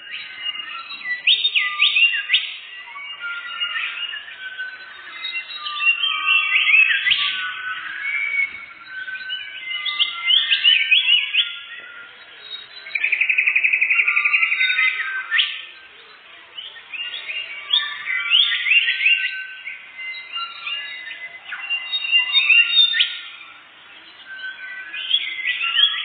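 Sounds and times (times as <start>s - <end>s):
fast bird trill: 0.0s - 26.0s
songbird singing: 0.0s - 26.0s.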